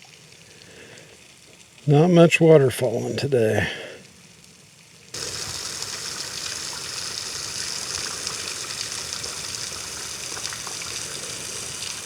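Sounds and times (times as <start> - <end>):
water falling and splashing: 0.0 - 1.9, 3.4 - 12.0.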